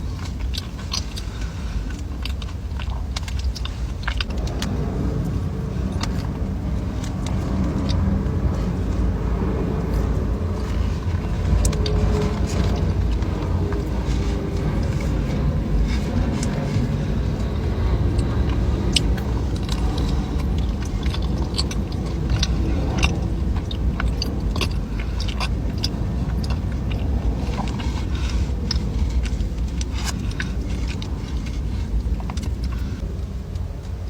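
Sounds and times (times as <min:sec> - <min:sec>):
crunchy pastry bites and chewing: 0:00.0 - 0:33.1
low rumble: 0:00.0 - 0:34.0.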